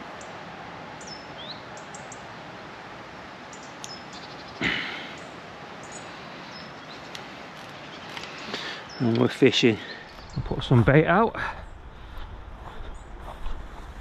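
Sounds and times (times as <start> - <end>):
steady outdoor hiss: 0.0 - 14.0
small birds chirping: 1.0 - 2.3, 3.4 - 13.5.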